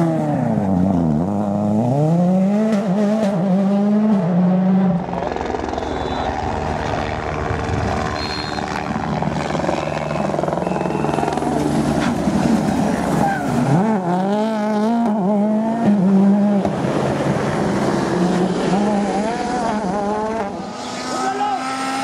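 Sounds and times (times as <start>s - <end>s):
rally car engine at full throttle: 0.0s - 22.0s.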